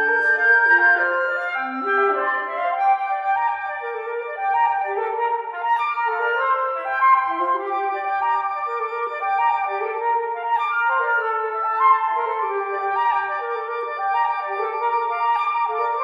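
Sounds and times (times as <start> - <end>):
flutes playing classical music: 0.0 - 16.0.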